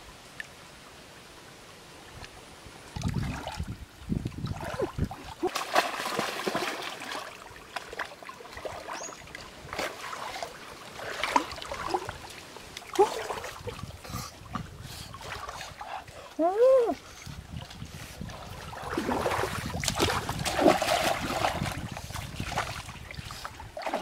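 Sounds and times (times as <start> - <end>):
stream water splashing: 0.0 - 24.0
water gurgling and trickling: 2.0 - 24.0.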